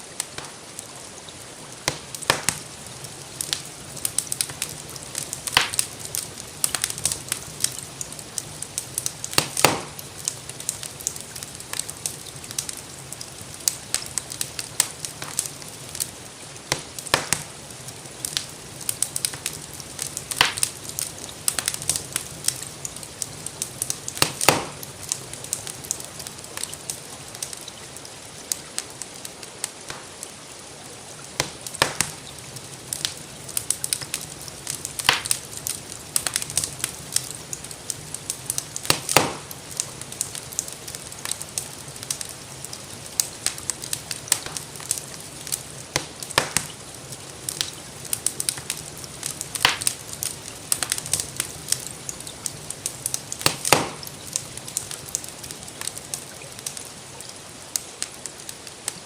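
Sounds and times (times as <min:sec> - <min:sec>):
fire popping: 0:00.0 - 0:59.0
rain hissing: 0:00.0 - 0:59.0
wood fire crackling: 0:00.0 - 0:59.0.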